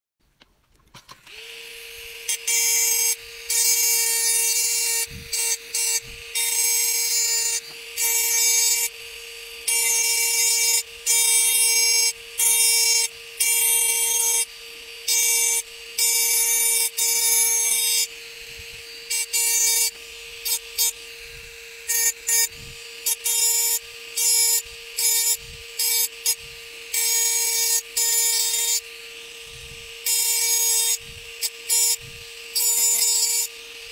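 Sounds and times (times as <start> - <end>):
engraving pen whining: 0.4 - 33.9.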